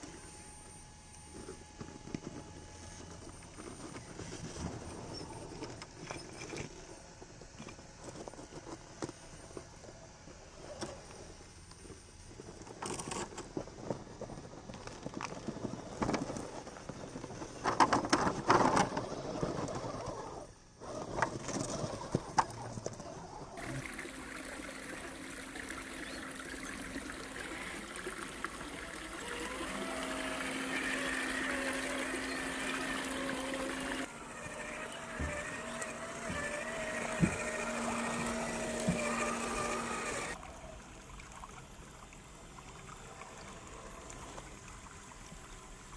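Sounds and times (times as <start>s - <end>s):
faint electric motor whine: 0.0s - 41.2s.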